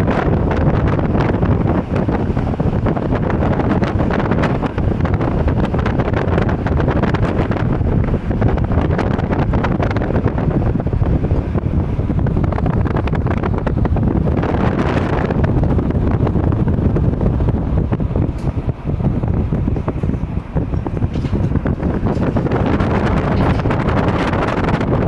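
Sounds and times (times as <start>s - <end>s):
road and engine noise: 0.0s - 25.0s
wind buffeting microphone: 0.0s - 25.0s.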